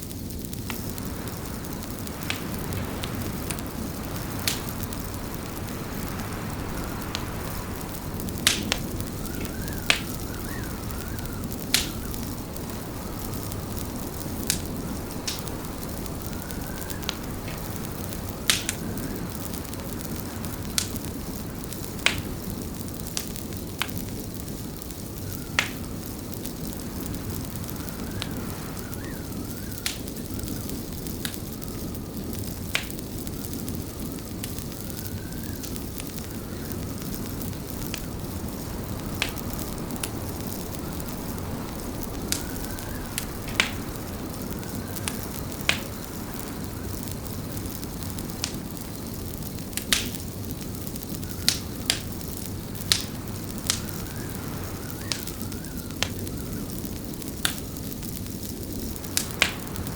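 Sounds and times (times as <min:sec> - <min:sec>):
burning wood rumble: 0:00.0 - 0:59.9
fire popping: 0:00.0 - 0:59.9.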